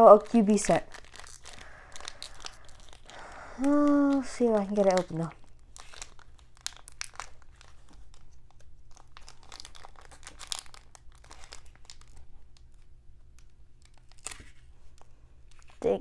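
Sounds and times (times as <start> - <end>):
foil wrapper crinkling and tearing: 0.0 - 16.0.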